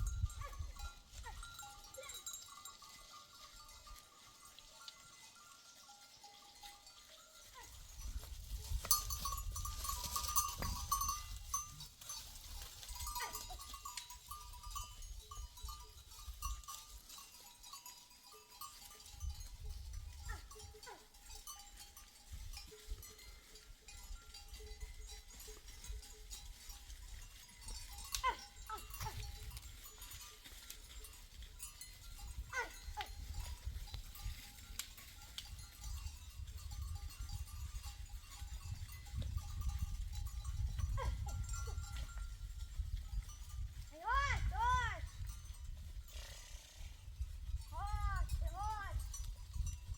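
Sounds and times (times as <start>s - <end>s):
animal bells clanking: 0.0s - 49.9s.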